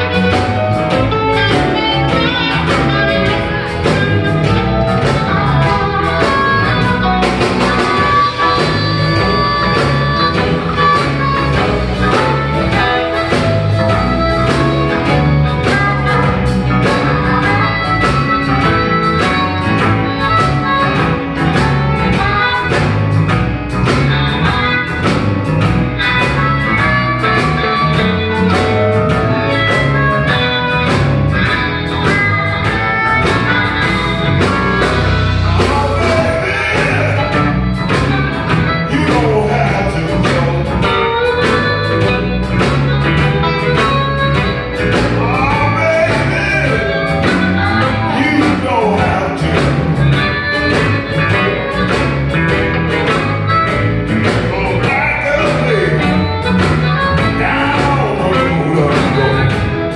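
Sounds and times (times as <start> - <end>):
electric blues band playing: 0.0 - 59.9
harmonica bending notes: 0.0 - 59.9.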